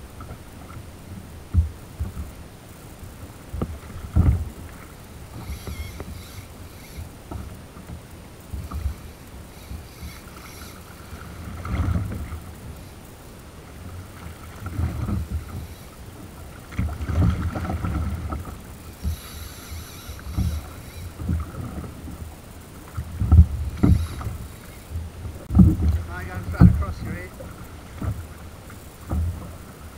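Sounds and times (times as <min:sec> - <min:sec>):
water sloshing against kayak hull: 0:03.5 - 0:13.0, 0:13.6 - 0:29.9.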